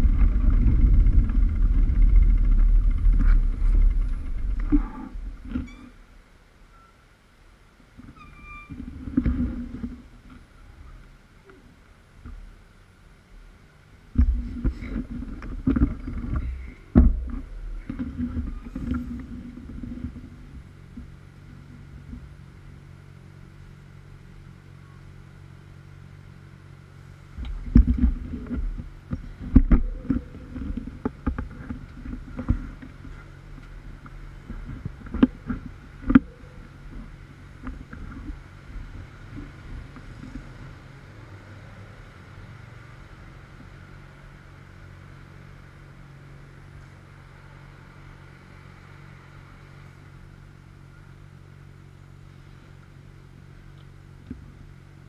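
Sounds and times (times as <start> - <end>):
heavy vehicle rumbling and rattling: 0.0 - 55.0
steady hum of traffic engines: 0.0 - 55.0.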